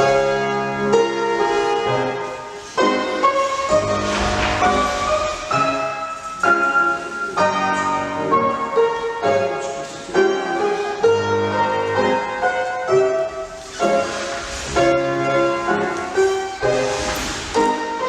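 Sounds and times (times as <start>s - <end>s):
piano music in steady rhythm: 0.0s - 18.0s.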